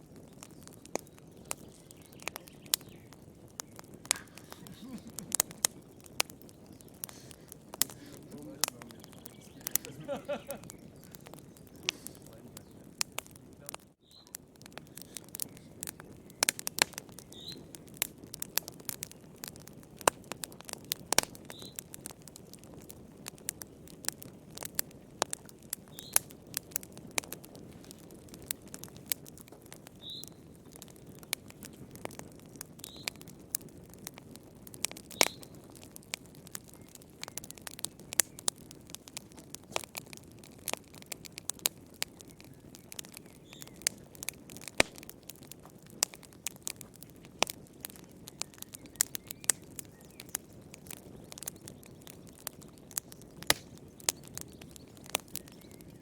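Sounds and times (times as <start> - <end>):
low rush of flames: 0.0 - 56.0
wood fire crackling and popping: 0.0 - 56.0.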